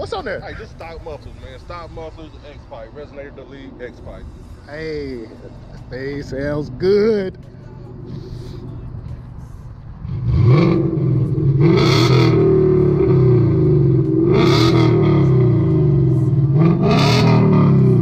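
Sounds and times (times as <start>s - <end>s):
car engine revving: 0.9s - 18.0s.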